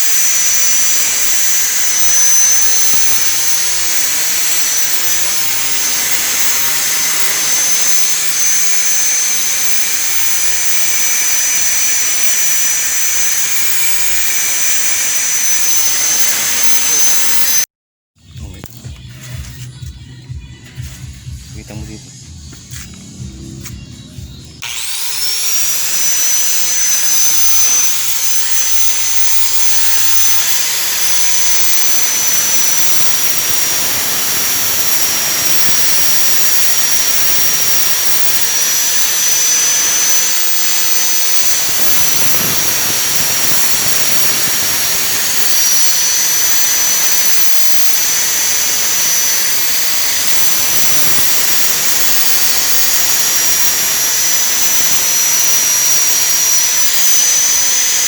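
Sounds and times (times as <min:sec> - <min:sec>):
electric grinder motor whine: 0:00.0 - 0:58.0.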